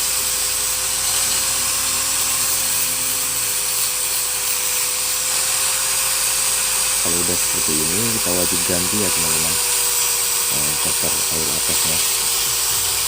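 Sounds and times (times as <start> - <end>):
small machine hissing and whining: 0.0 - 13.0.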